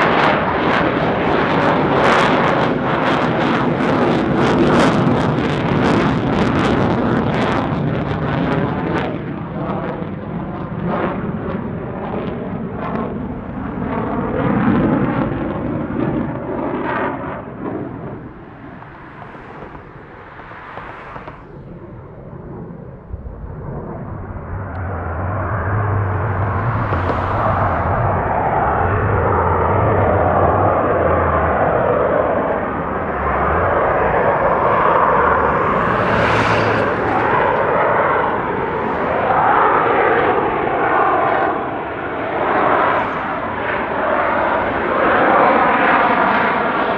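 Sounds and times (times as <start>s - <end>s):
jet engine passing by: 0.0s - 46.9s.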